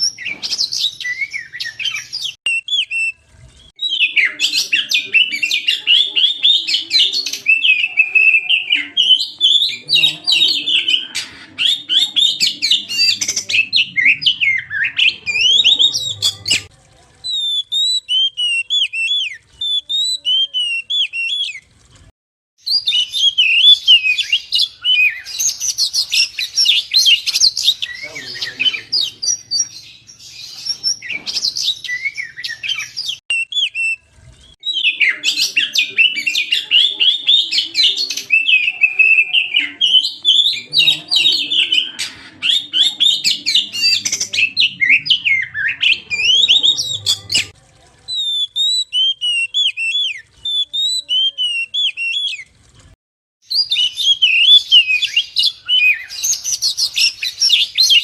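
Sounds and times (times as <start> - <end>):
bird singing whistles and chirps: 0.0 - 16.7, 17.3 - 21.6, 22.6 - 34.0, 34.6 - 47.5, 48.1 - 52.4, 53.5 - 58.0.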